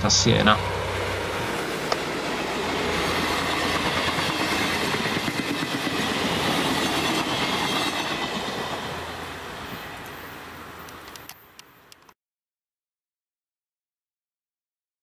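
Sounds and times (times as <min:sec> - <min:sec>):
train wheel and rail noise: 0:00.0 - 0:12.1.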